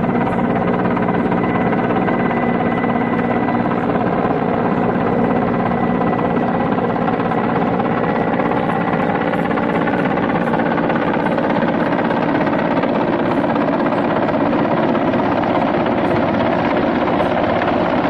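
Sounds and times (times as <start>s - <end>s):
helicopter drone: 0.0s - 18.0s.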